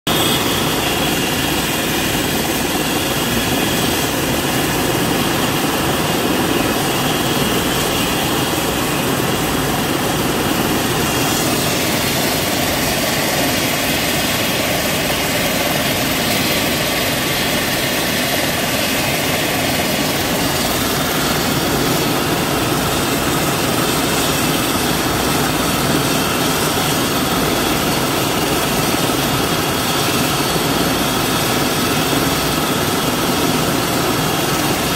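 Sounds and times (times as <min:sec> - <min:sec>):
helicopter turbine and rotor: 0:00.1 - 0:34.9.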